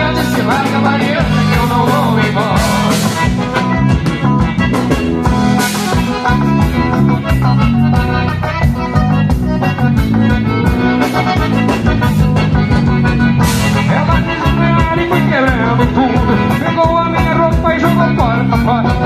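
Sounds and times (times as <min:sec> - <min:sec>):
live dance band playing: 0:00.0 - 0:19.0.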